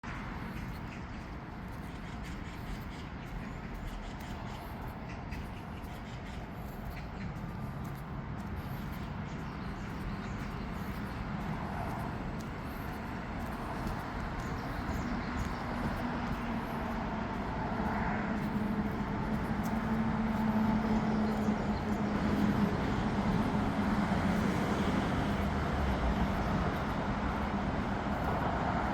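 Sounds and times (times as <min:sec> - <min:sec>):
vehicle traffic rumble: 0:00.0 - 0:28.9.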